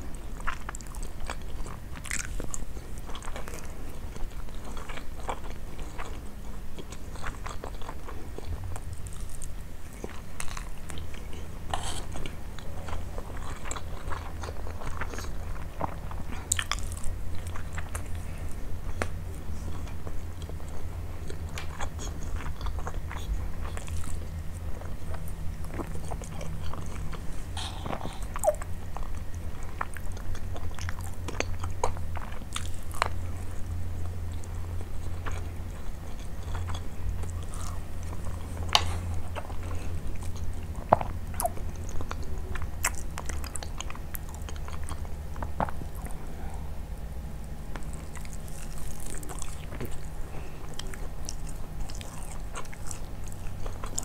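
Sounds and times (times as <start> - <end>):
chewing rice: 0.0 - 54.0
low steady hum: 0.0 - 54.0.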